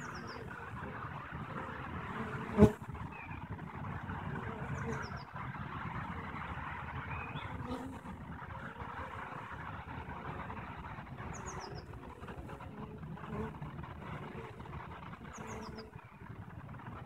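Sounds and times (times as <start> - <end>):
honeybees buzzing: 0.0 - 16.3
low steady rumble: 0.0 - 17.0.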